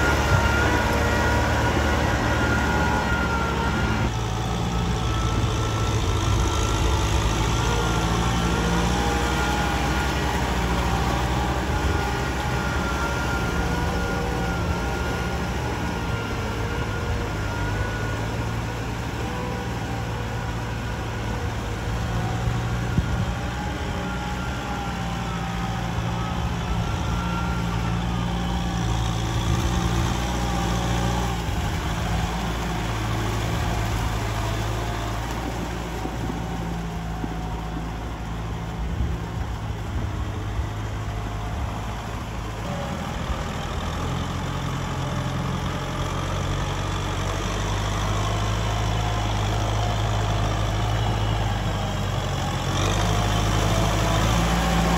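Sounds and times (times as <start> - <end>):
rotary tiller churning mud: 0.0 - 54.9
tractor diesel engine running: 0.0 - 54.9.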